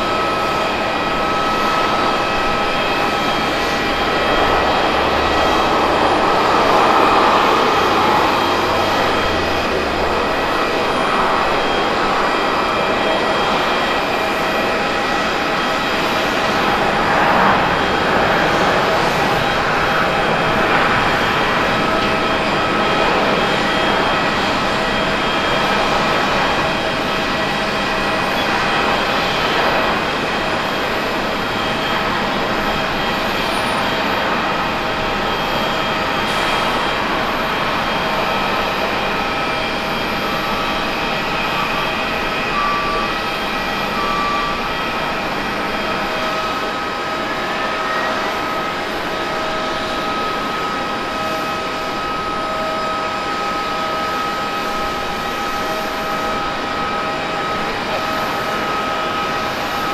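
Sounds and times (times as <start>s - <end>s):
high engine whines: 0.0s - 59.9s
jet engine rush: 0.0s - 59.9s.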